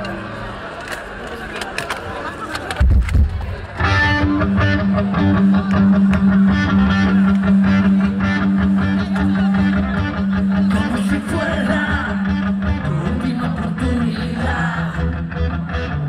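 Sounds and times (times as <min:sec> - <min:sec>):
electric guitars: 0:00.0 - 0:16.0.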